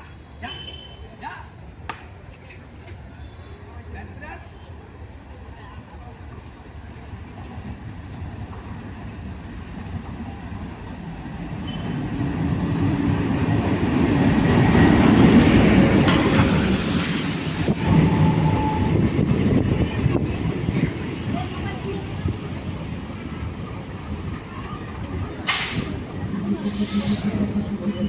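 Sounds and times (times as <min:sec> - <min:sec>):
diesel locomotive engine rumble: 0:02.4 - 0:28.0
train rolling on track: 0:04.6 - 0:28.0.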